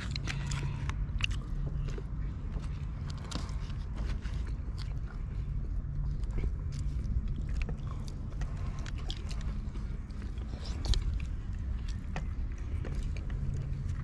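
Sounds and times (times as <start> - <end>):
person chewing and crunching food: 0.0 - 14.0
steady low rumble: 0.0 - 14.0.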